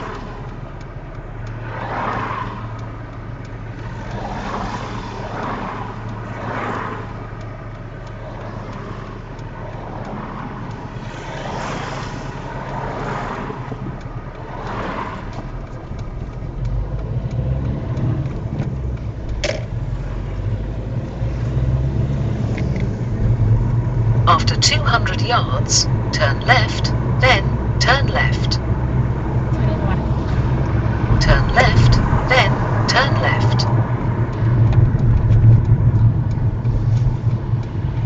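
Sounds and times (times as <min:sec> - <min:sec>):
car engine and road rumble: 0:00.0 - 0:38.0
vehicles swishing past: 0:00.0 - 0:38.0.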